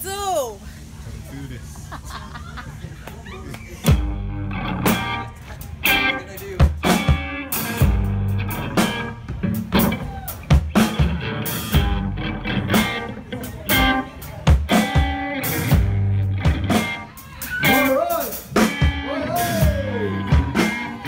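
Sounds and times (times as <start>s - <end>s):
drum kit slow steady beat: 3.8s - 21.0s
electric guitar: 3.8s - 21.0s.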